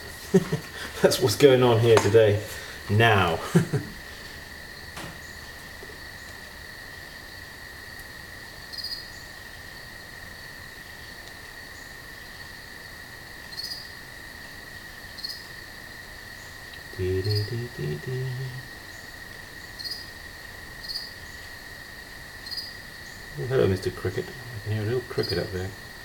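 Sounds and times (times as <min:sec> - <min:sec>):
cricket trilling: 0:00.0 - 0:26.0.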